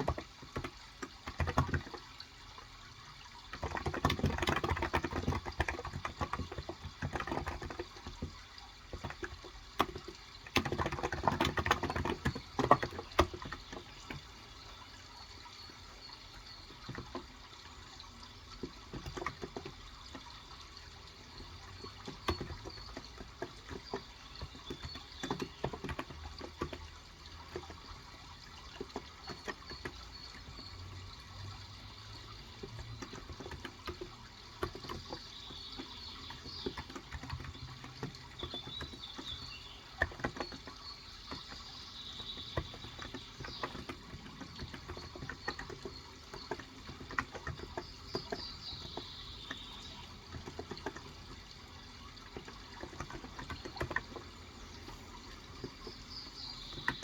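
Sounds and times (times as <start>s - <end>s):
typing on a keyboard: 0.0s - 2.2s, 3.3s - 15.1s, 15.7s - 57.0s
water trickling: 0.0s - 57.0s
birds chirping: 3.1s - 57.0s.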